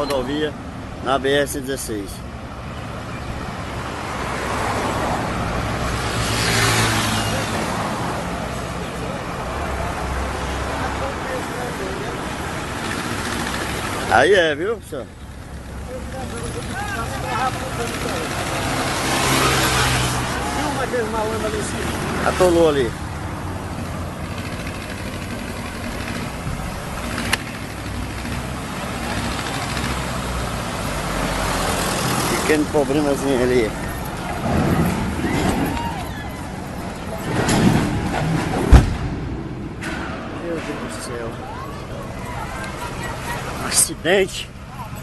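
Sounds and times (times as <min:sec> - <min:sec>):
road and tyre noise: 0:00.0 - 0:45.0
truck diesel engine hum: 0:00.0 - 0:45.0.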